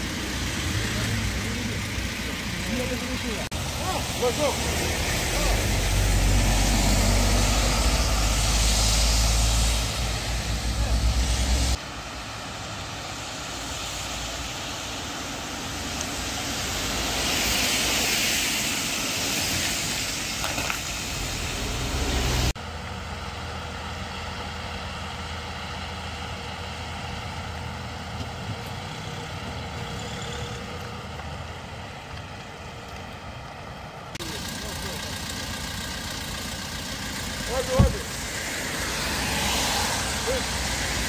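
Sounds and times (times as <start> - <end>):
steady engine hum: 0.0 - 41.0
vehicles passing on wet road: 0.0 - 41.0.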